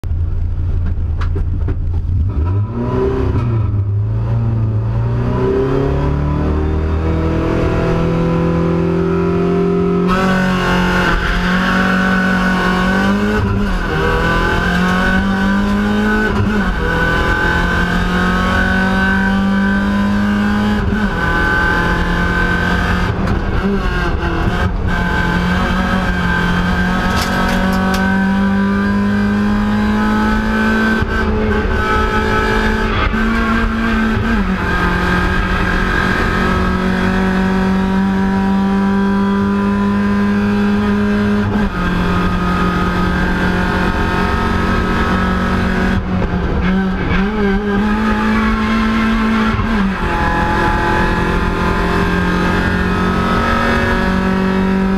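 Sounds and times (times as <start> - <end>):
race car engine revving: 2.0 - 54.9.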